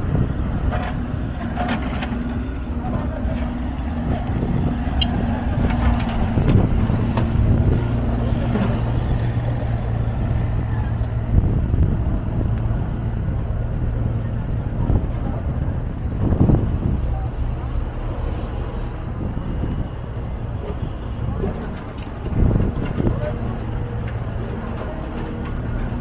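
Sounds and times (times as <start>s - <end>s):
high engine tone: 0.0s - 26.0s
traffic engine hum: 0.0s - 26.0s.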